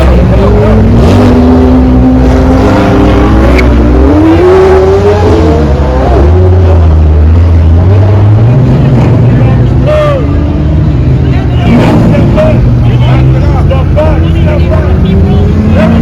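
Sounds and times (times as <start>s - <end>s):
car engine accelerating: 0.0s - 16.0s
deep engine rumble: 0.0s - 16.0s.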